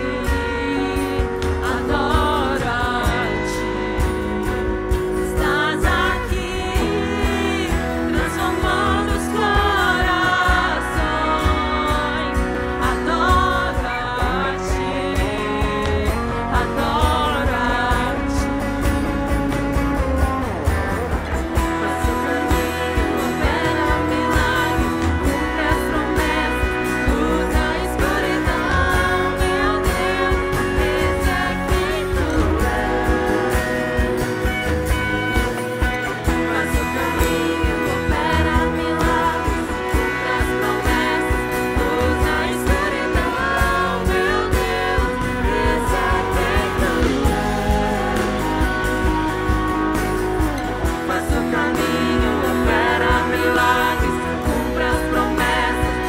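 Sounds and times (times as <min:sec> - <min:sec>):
bass guitar: 0:00.0 - 0:56.0
electric guitar: 0:00.0 - 0:56.0
people singing into microphones: 0:00.0 - 0:56.0.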